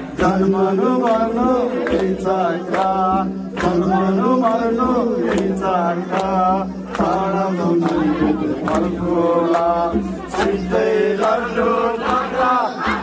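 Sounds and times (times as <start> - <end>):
sharp percussive strikes: 0.0 - 13.0
voices chanting a hymn: 0.0 - 13.0.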